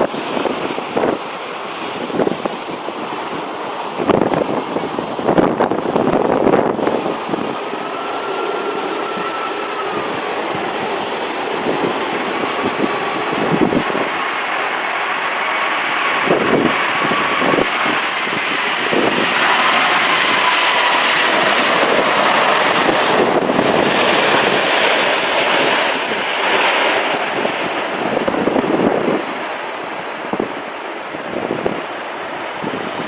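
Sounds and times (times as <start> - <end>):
jet airliner engine noise: 0.0 - 33.0
wind buffeting microphone: 0.0 - 33.0
faint whine: 2.6 - 32.7.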